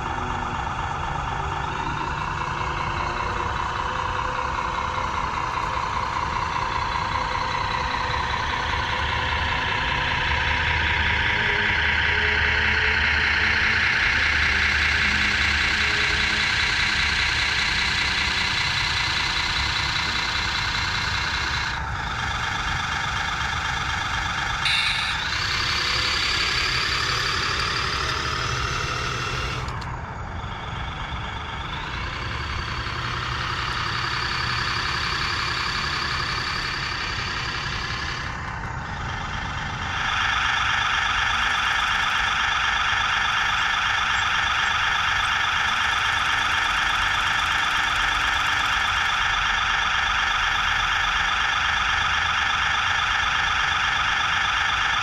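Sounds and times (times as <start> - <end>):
loud mechanical hum: 0.0 - 55.0.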